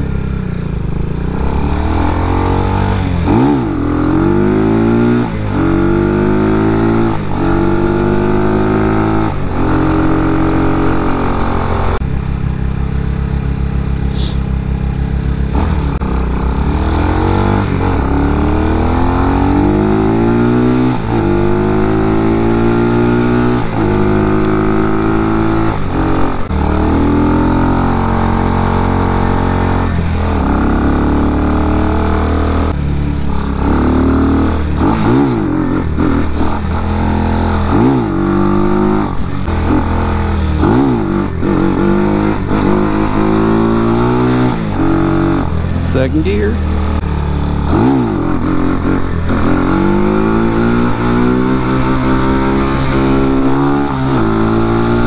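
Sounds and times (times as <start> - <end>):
motorcycle engine accelerating through gears: 0.0 - 55.0.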